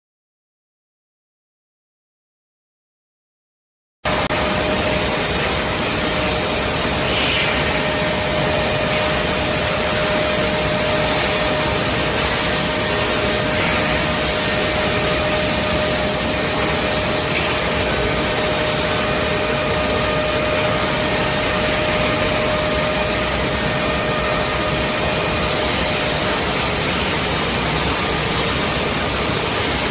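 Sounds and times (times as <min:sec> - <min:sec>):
woodworking machinery humming: 0:04.1 - 0:29.9.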